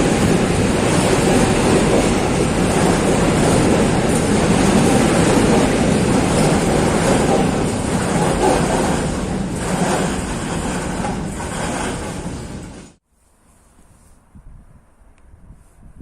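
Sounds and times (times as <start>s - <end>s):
freight train wheels rumbling on rails: 0.0s - 13.0s.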